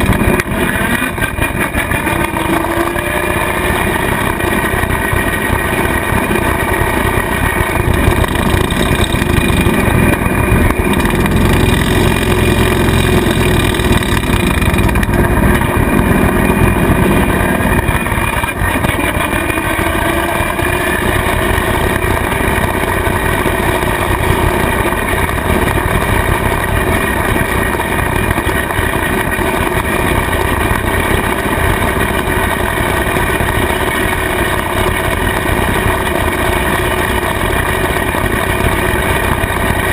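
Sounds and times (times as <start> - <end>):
rotary cutter through grass: 0.0 - 39.9
tractor diesel engine running: 0.0 - 39.9.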